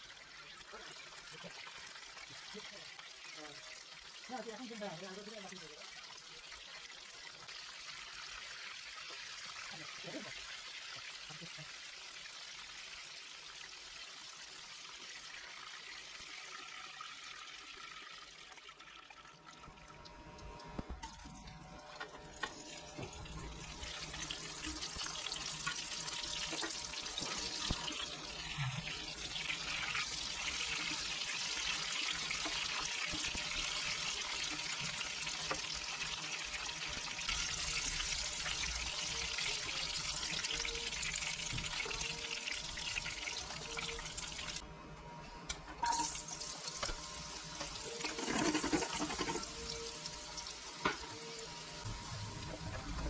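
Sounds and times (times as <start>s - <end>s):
chicken sizzling in hot oil: 0.0s - 44.6s, 45.5s - 53.0s.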